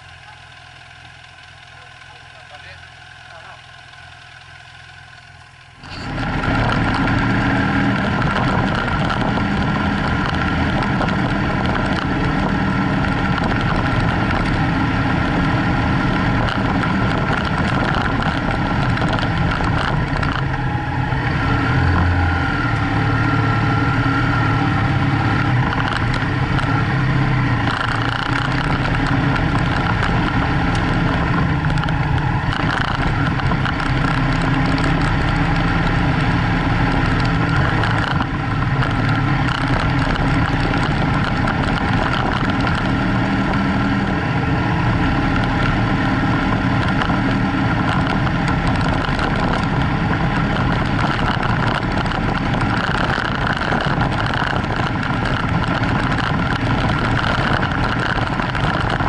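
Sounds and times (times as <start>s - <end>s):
tyres on gravel: 0.0s - 23.0s, 24.0s - 59.0s
motorcycle engine: 0.0s - 59.0s.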